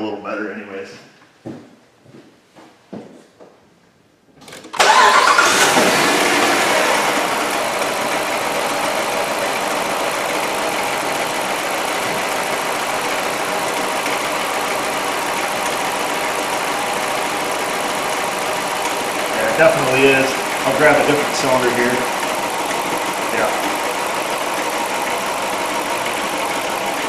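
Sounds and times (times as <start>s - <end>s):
car engine starting and idling: 4.4s - 27.0s.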